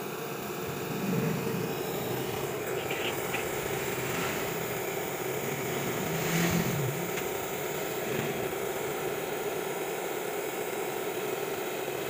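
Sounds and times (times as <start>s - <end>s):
gas burner rushing: 0.0s - 10.6s.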